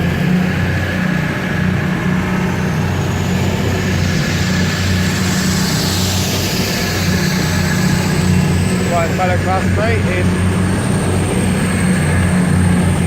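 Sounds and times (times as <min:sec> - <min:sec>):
diesel train engines humming: 0:00.0 - 0:13.0
faint high whine: 0:00.0 - 0:13.0.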